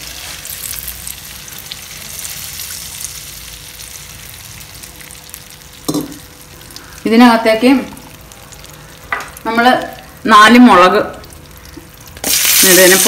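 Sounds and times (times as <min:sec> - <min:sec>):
butter sizzling in a pan: 0:00.0 - 0:07.2, 0:08.0 - 0:13.0.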